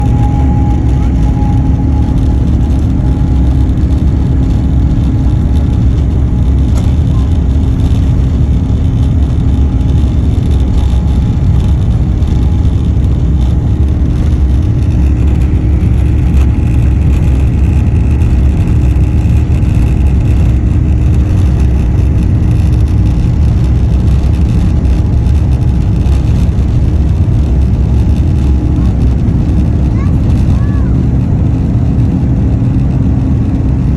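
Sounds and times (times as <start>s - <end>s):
high engine whine: 0.0s - 33.9s
jet engine rumble in cabin: 0.0s - 33.9s.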